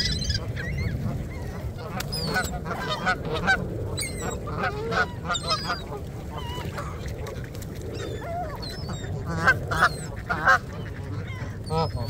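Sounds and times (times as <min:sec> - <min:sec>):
geese honking: 0:00.0 - 0:07.0, 0:08.5 - 0:12.0.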